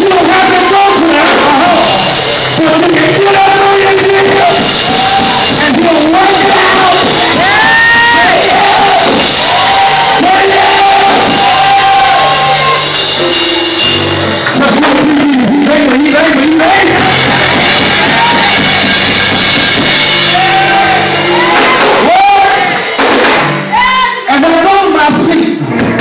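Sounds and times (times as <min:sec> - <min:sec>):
voice shouting and singing: 0:00.0 - 0:13.0, 0:14.5 - 0:19.2, 0:19.9 - 0:25.7
held accompanying chords: 0:00.0 - 0:25.0.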